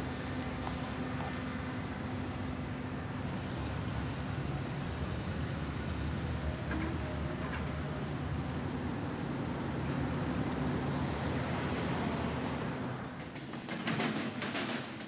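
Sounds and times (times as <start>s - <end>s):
train passing rumble: 0.0s - 15.0s.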